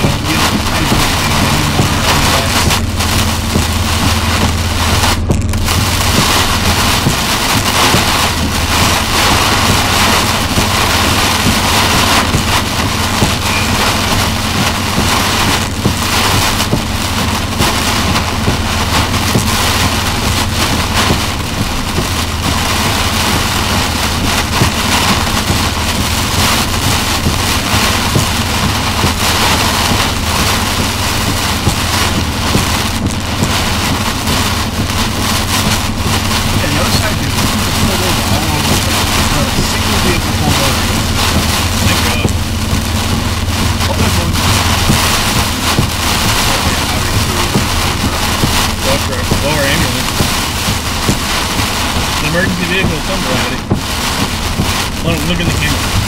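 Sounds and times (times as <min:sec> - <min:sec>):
heavy rain on vehicle roof: 0:00.0 - 0:56.0
low engine and road hum: 0:00.0 - 0:56.0.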